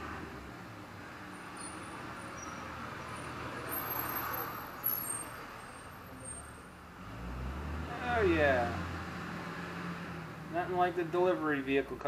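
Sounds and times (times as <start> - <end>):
truck passing by: 0.0 - 11.9.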